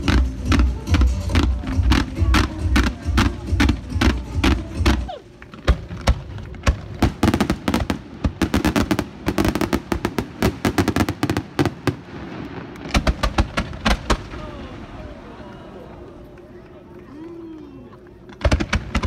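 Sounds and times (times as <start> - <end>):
fireworks bangs: 0.0 - 15.4, 18.3 - 19.0.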